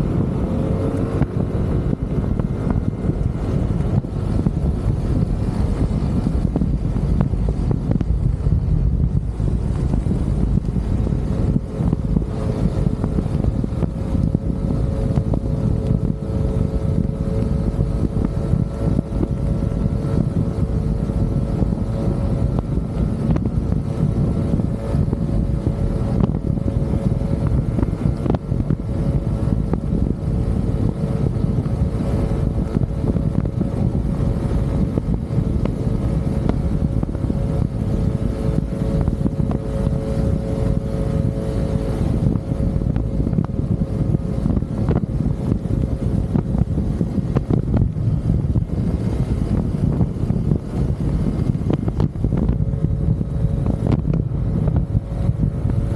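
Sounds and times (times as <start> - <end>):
motorcycle engine drone: 0.0 - 55.9
wind rumble on microphone: 0.0 - 55.9.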